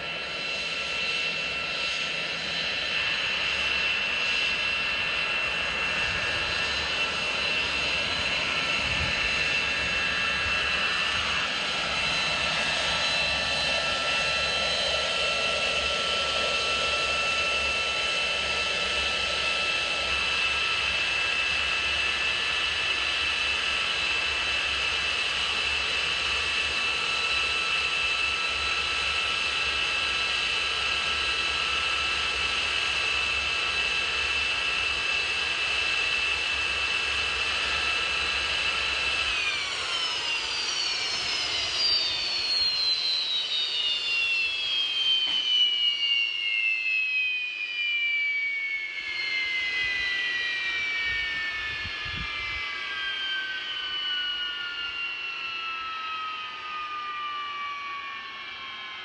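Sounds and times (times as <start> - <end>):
jet engine whining: 0.0 - 59.0.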